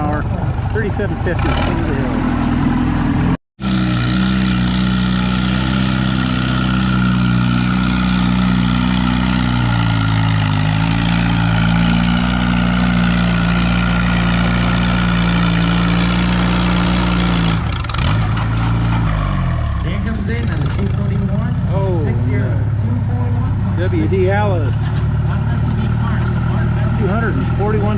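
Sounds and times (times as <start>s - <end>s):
tractor engine running under load: 0.0s - 27.9s.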